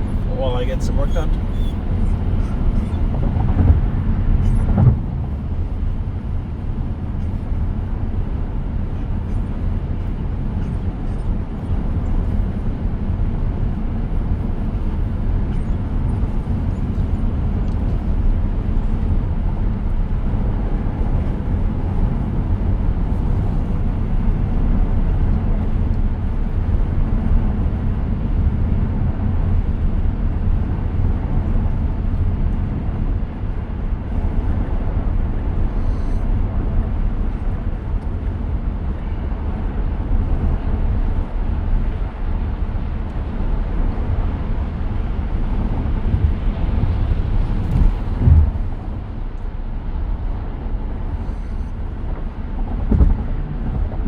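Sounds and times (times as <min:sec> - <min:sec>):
road and tyre noise in car cabin: 0:00.0 - 0:54.0.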